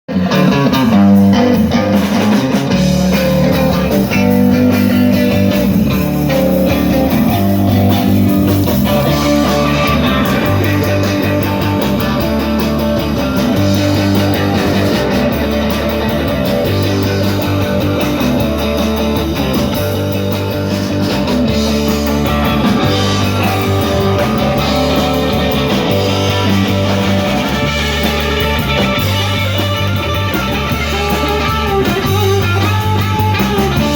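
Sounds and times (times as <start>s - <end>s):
guitar: 0.0s - 33.9s
repeating bass line: 0.1s - 33.9s.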